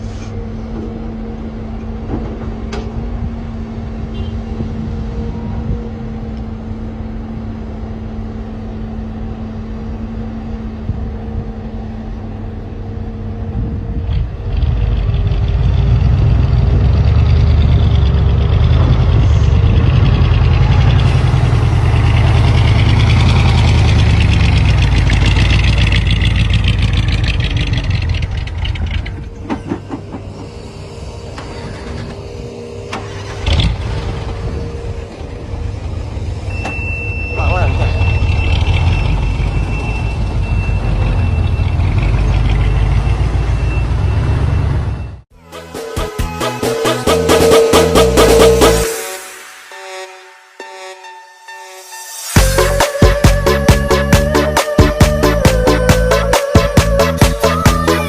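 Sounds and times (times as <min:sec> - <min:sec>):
truck engine idling and revving: 0:00.0 - 0:49.7, 0:52.3 - 0:58.0.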